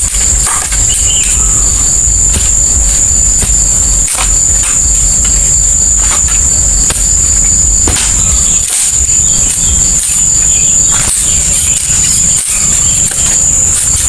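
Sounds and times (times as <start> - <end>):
heavy rain: 0.0 - 14.0
high-pitched insect drone: 0.0 - 14.0.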